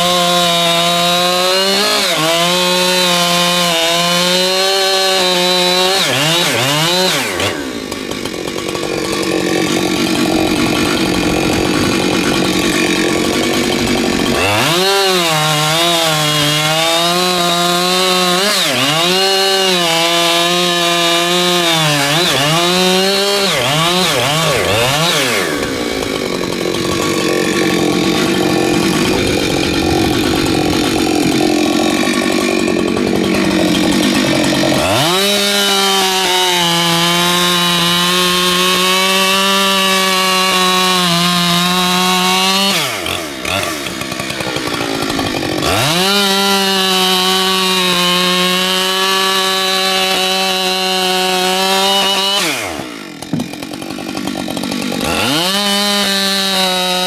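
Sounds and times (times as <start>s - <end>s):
chain cutting into wood: 0.0s - 57.0s
chainsaw running at full throttle: 0.0s - 57.0s.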